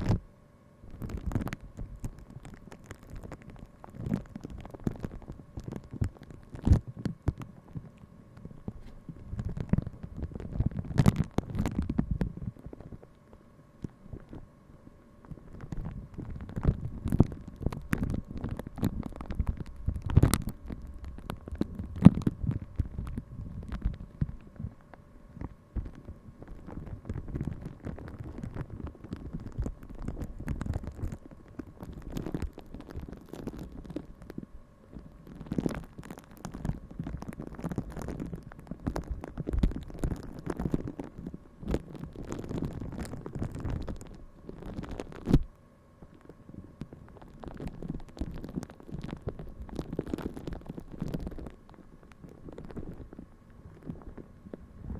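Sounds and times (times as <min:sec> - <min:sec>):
faint steady hum: 0:00.0 - 0:54.9
soft scratching and rubbing: 0:00.9 - 0:14.6, 0:15.2 - 0:54.9.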